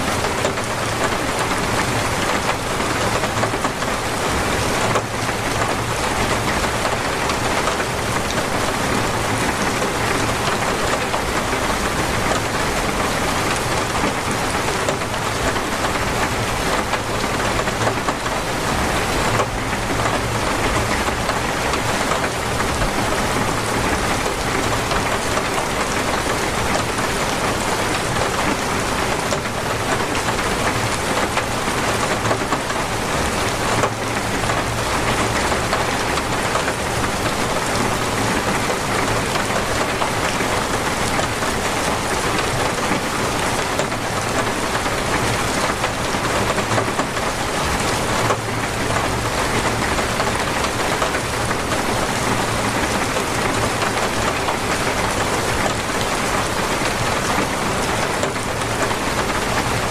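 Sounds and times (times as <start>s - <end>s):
torrential rain: 0.0s - 59.9s.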